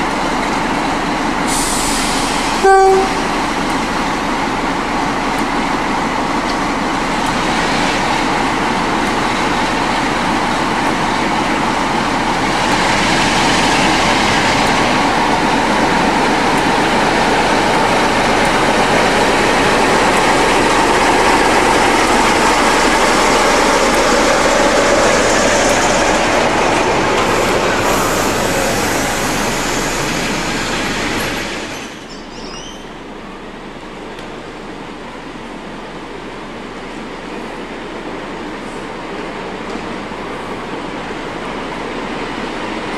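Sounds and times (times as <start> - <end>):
train rumbling past on tracks: 0.0 - 42.9.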